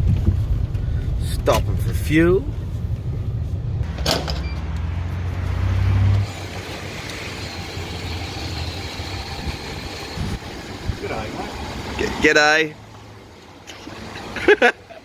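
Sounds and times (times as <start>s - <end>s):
car engine hum from inside: 0.0s - 12.0s.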